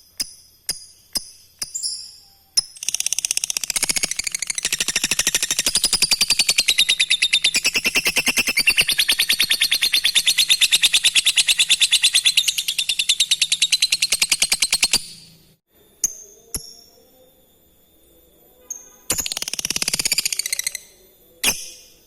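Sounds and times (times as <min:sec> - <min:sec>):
lovebird rattling trill: 0:00.0 - 0:15.5, 0:18.8 - 0:21.8.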